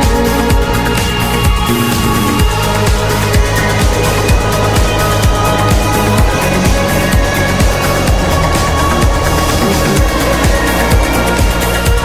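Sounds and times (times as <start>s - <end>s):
music with fast bass beat: 0.0s - 12.0s.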